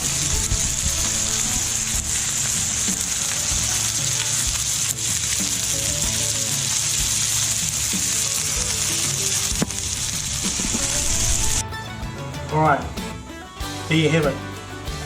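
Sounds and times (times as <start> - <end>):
barbecue sizzling and crackling: 0.0 - 15.0
soft background music: 0.0 - 15.0.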